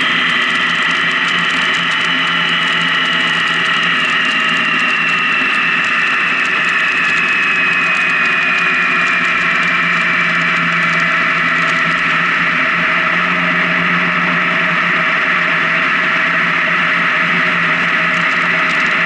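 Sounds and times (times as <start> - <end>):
motorcycle engine drone: 0.0 - 19.0.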